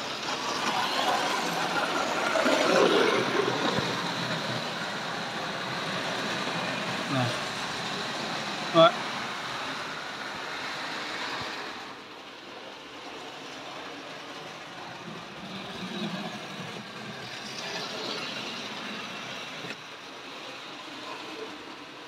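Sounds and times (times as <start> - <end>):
model locomotive running on track: 0.0 - 22.0.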